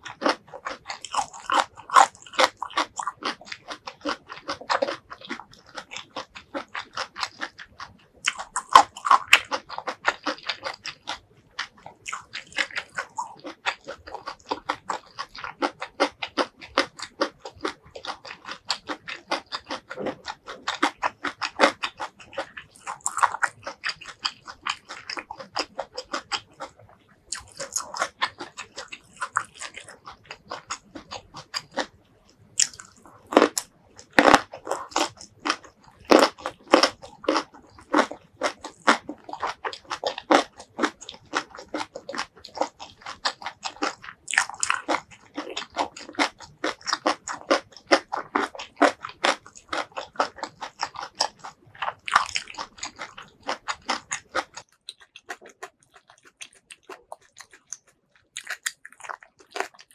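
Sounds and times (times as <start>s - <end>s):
chewing crunchy vegetables: 0.0s - 59.9s.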